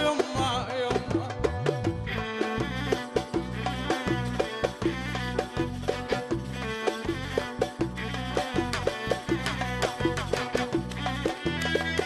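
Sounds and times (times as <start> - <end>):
instrumental song with percussion: 0.0 - 12.0.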